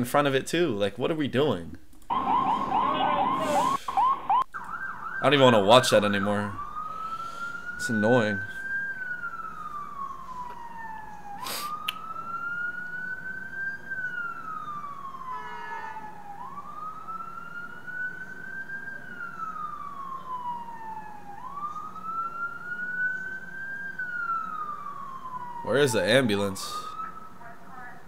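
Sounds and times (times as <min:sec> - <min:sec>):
ambulance siren wailing: 0:02.1 - 0:28.0.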